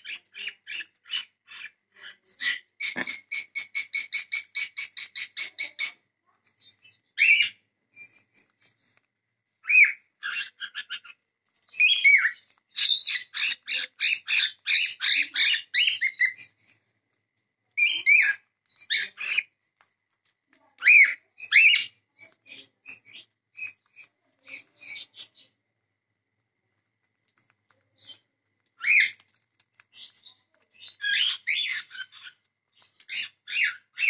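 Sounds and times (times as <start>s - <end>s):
cockatiels chirping: 0.0s - 16.8s, 17.8s - 19.9s, 20.8s - 25.5s, 27.3s - 34.0s.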